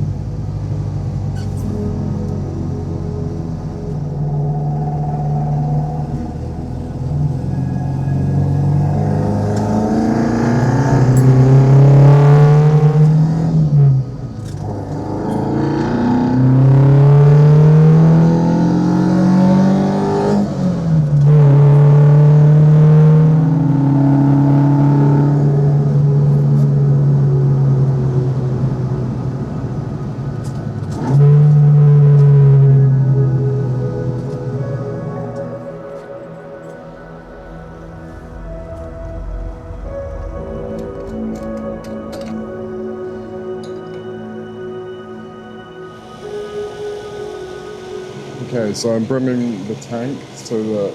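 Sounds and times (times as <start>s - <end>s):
car engine accelerating: 0.0s - 50.9s.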